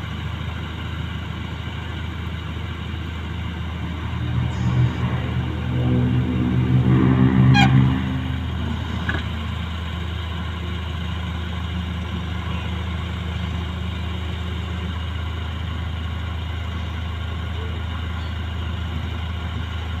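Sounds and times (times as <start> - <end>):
heavy diesel engine: 0.0 - 20.0.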